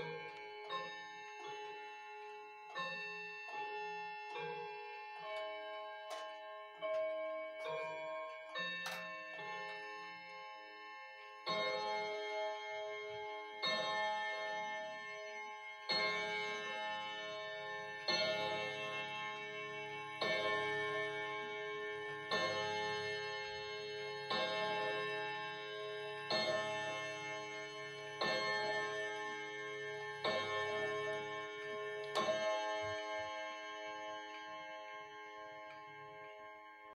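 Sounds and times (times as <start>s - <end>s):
wall clock striking: 0.0s - 10.2s, 11.4s - 35.7s.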